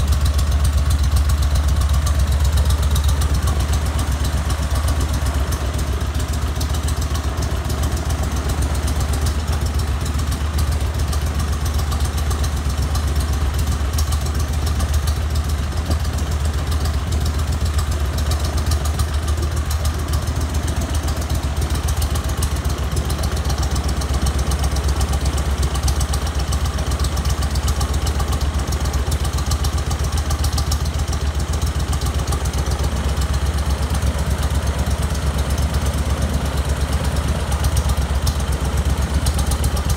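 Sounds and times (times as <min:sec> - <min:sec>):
twin-cylinder engine running: 0:00.0 - 0:39.9.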